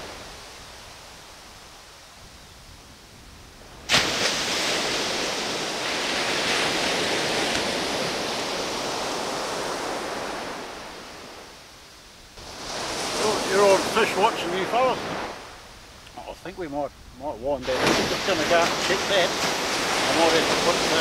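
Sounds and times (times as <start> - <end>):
surf rushing on beach: 0.0 - 21.0.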